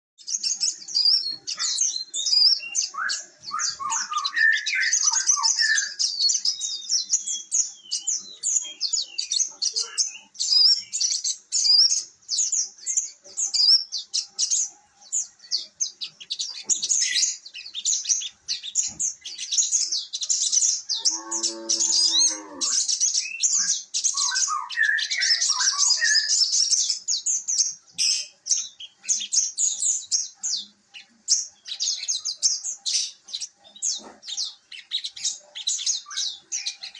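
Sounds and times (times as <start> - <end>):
cage bird twittering: 0.2 - 36.9.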